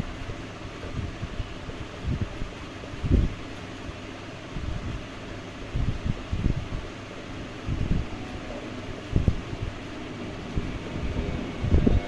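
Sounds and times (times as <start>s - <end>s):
fan-like background noise: 0.0s - 12.0s.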